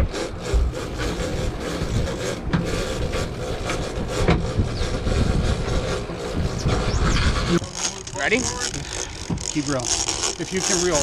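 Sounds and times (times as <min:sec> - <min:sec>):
outboard engines running: 0:00.0 - 0:11.0
wind and water rushing: 0:00.0 - 0:11.0.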